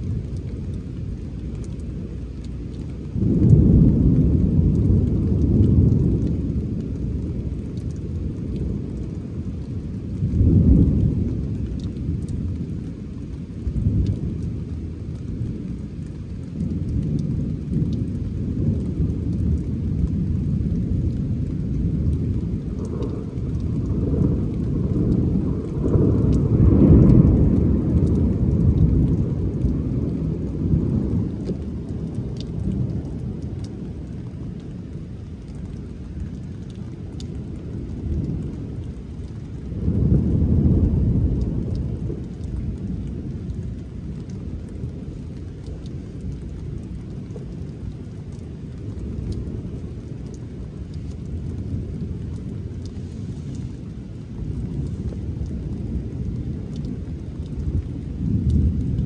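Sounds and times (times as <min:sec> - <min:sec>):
steady rain: 0:00.0 - 0:59.0
thunder rumbling: 0:00.0 - 0:59.0.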